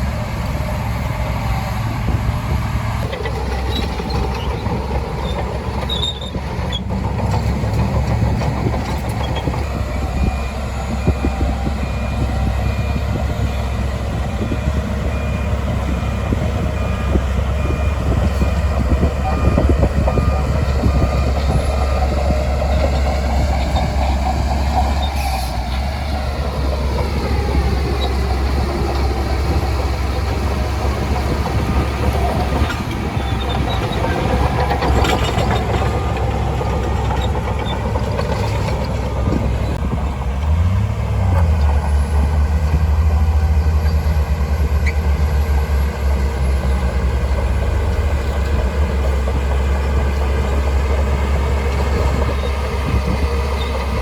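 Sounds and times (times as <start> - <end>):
bulldozer engine under load: 0.0 - 54.0.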